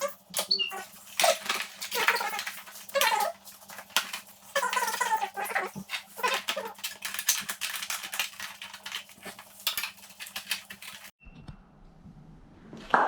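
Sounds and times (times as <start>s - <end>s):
metal tools clinking and rattling: 0.0s - 11.1s.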